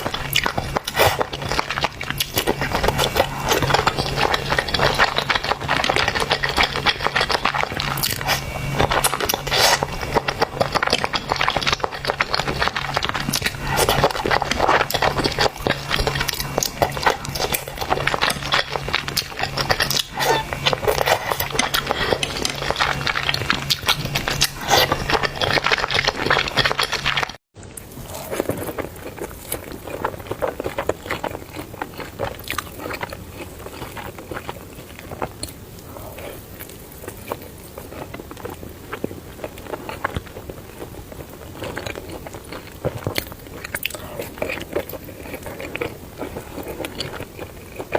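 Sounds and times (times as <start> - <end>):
chewing noodles: 0.0 - 47.9.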